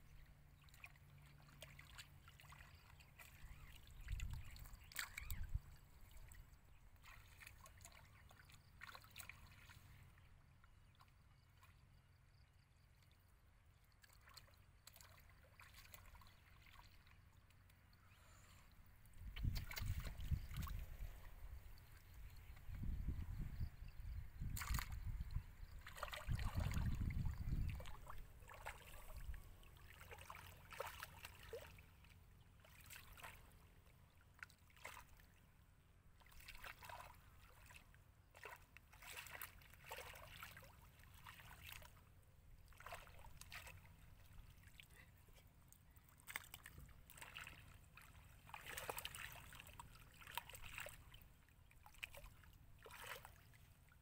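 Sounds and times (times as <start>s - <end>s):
muddy water sloshing and splashing: 0.1s - 54.0s.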